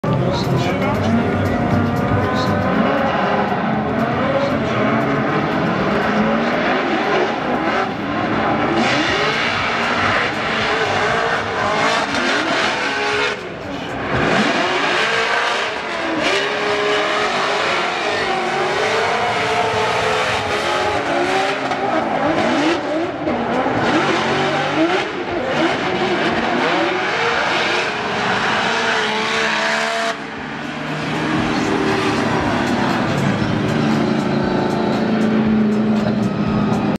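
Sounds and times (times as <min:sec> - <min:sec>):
car engines revving high: 0:00.0 - 0:36.9.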